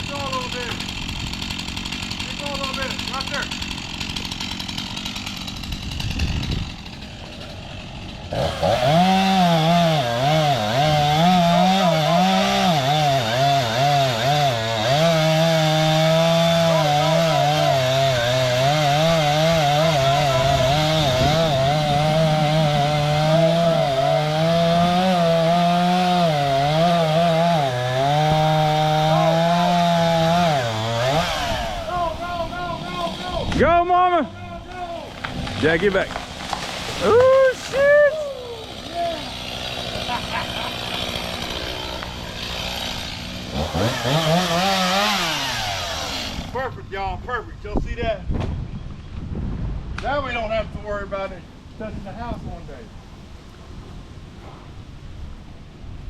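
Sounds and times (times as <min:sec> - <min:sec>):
chainsaw cutting wood: 0:00.0 - 0:33.8, 0:34.4 - 0:46.7.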